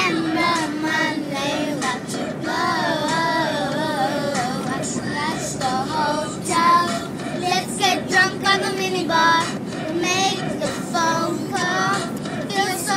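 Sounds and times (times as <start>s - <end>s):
child singing: 0.0s - 12.9s.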